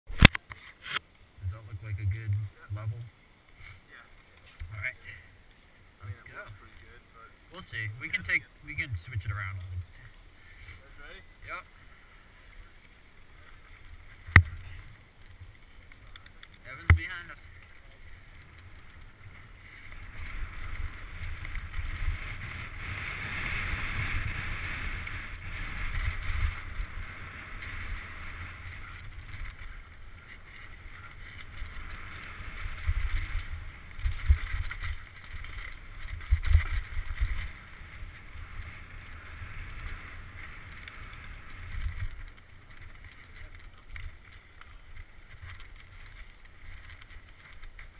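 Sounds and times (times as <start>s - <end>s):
bike tyre and frame noise: 0.1s - 47.9s.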